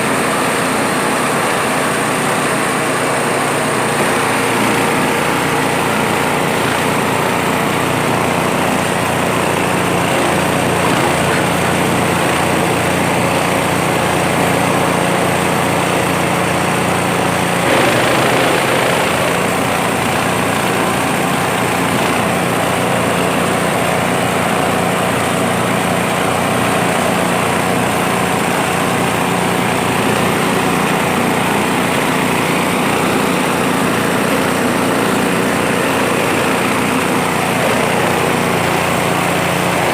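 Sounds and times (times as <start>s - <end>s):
forage chopper engine running: 0.0s - 39.9s.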